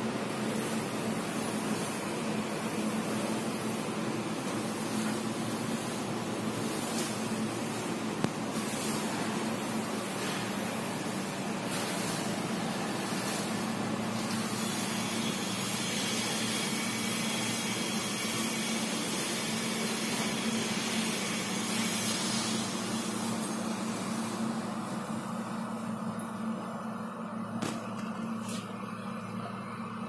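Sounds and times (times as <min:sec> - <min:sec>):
car engine idling with hiss: 0:00.0 - 0:30.0.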